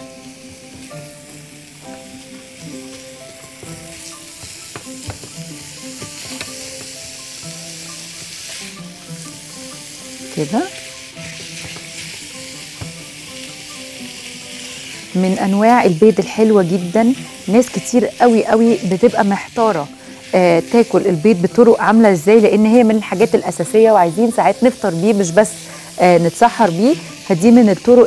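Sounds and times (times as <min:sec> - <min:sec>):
meat sizzling in hot oil: 0:00.0 - 0:28.0.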